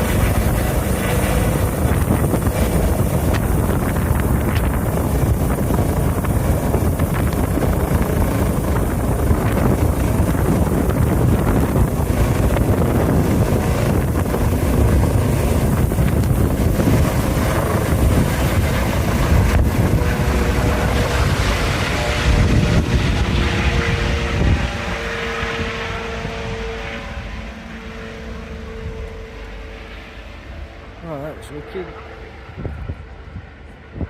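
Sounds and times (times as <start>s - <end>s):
wind buffeting microphone: 0.0s - 31.0s, 32.0s - 34.0s.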